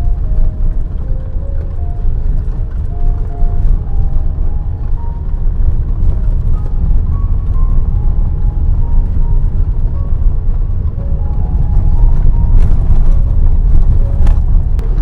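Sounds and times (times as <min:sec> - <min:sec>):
faint background music: 0:00.0 - 0:15.0
vehicle driving on rough road: 0:00.0 - 0:15.0.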